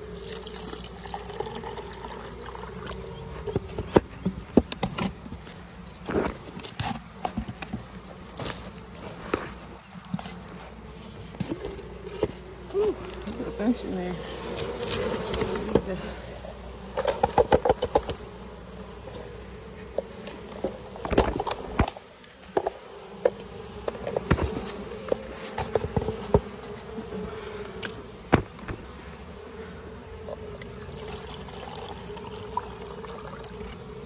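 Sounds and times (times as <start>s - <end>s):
bees buzzing: 0.0s - 34.0s.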